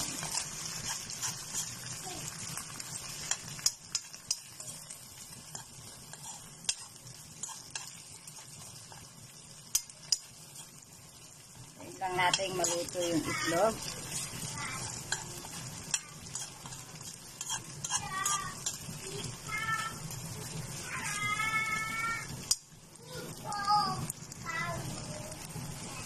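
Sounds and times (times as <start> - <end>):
spatula stirring and scraping: 0.0 - 22.6
food sizzling in a pan: 0.0 - 26.0.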